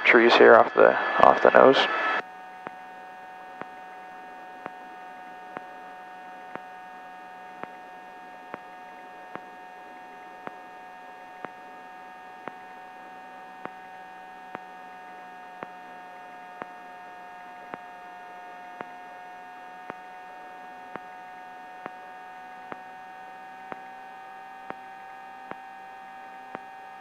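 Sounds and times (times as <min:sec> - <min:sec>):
helicopter whine: 0:00.0 - 0:27.0.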